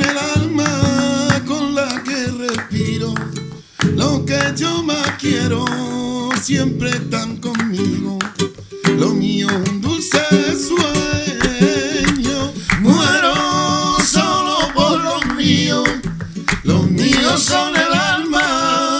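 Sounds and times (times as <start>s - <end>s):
acoustic guitar strumming: 0.0s - 18.9s
person singing: 0.0s - 18.9s.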